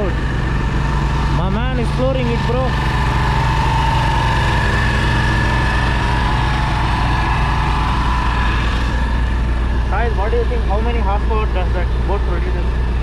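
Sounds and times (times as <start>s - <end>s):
boat engine drone: 0.0s - 13.0s
high-pitched engine whine: 0.0s - 13.0s.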